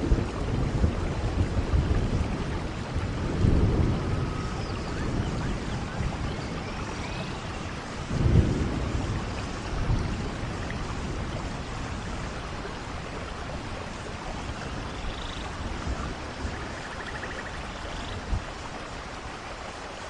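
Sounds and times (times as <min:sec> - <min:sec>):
thunder rumbling: 0:00.0 - 0:19.3
steady rainfall: 0:00.0 - 0:20.0.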